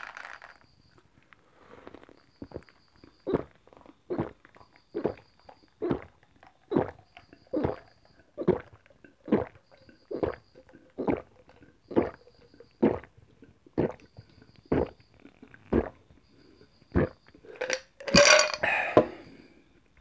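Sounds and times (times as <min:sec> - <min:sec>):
person gulping juice: 0:01.2 - 0:19.4.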